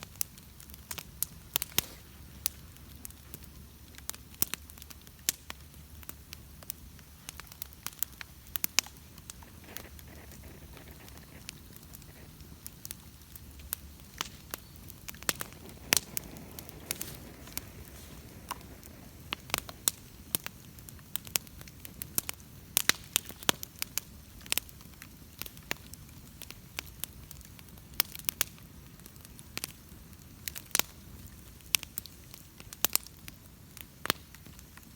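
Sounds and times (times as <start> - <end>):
bonfire crackling: 0.0 - 34.9
sharp pops and snaps: 0.2 - 28.6.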